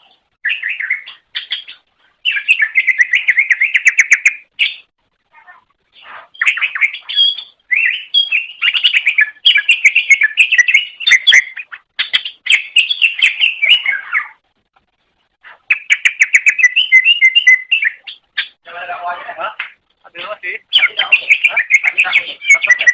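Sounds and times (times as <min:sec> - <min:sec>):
bird singing chattering song: 0:00.1 - 0:04.9, 0:06.0 - 0:14.4, 0:15.5 - 0:18.6, 0:19.6 - 0:22.9.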